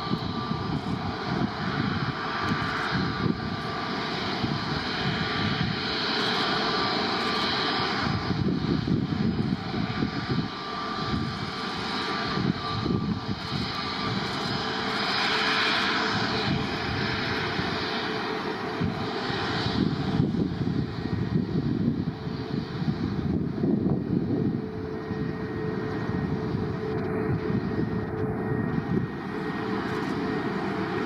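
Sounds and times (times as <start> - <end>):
airliner engines rushing: 0.0 - 31.0
thin steady engine whine: 0.0 - 31.0.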